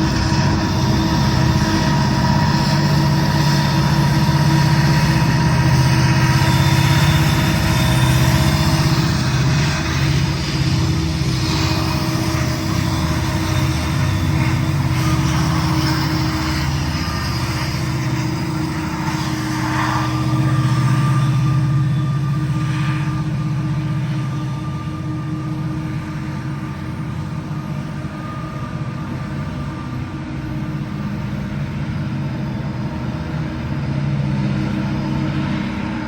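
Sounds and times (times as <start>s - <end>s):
freight train low drone: 0.0s - 36.0s
wheels rolling on rail: 0.0s - 36.0s.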